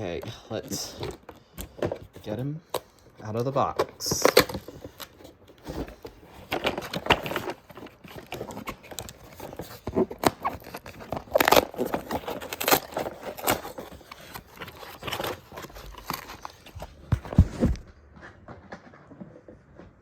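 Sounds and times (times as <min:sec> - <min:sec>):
cardboard packaging handling: 0:00.0 - 0:18.0.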